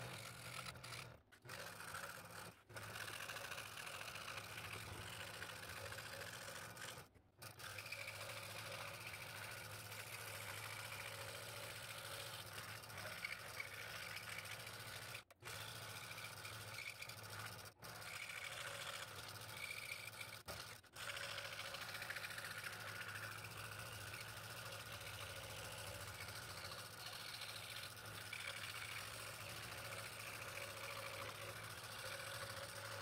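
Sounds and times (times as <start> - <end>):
scroll saw buzzing through wood: 0.0 - 33.0.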